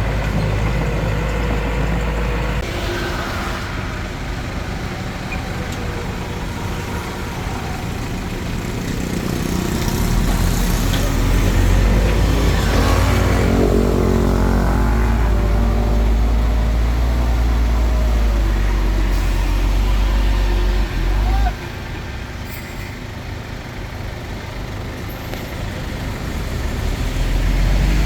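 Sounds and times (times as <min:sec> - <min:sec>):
bulldozer diesel engine revving: 0:00.0 - 0:22.3, 0:23.4 - 0:28.0.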